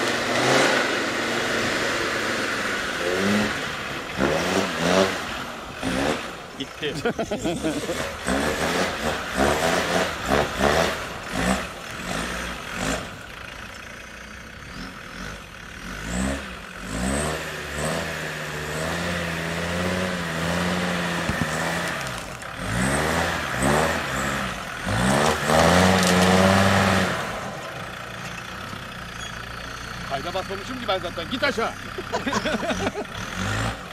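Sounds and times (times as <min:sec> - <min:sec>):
engine knocks and rattles: 0:00.0 - 0:18.0, 0:18.8 - 0:33.9
diesel engine revving: 0:00.0 - 0:33.9.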